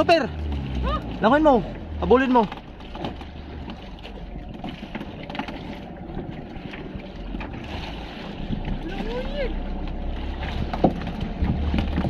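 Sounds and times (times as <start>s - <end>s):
sea water around boat: 0.0s - 12.0s.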